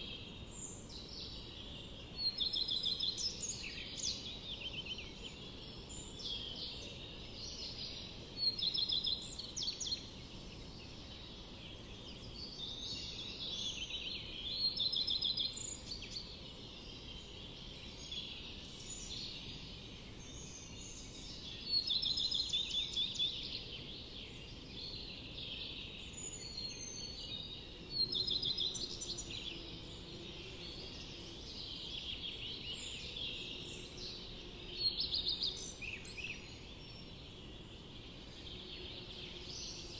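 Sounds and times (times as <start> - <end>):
bird song with fast trill: 0.0 - 39.9
songbirds singing: 0.0 - 39.9.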